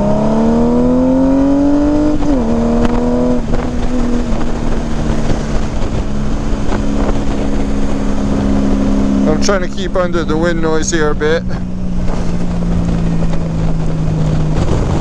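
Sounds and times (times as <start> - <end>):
motorcycle exhaust accelerating: 0.0 - 15.0
wind noise: 0.0 - 15.0.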